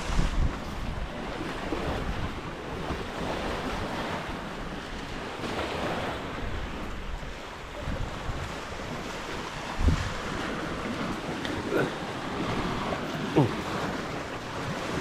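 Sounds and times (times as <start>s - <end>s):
sea waves washing on beach: 0.0s - 15.0s
wind buffeting microphone: 0.0s - 15.0s.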